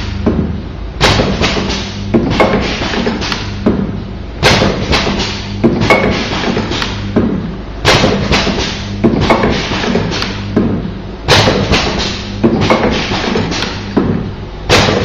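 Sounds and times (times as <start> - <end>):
low machine hum: 0.0 - 15.0
machine loud knock: 0.0 - 15.0.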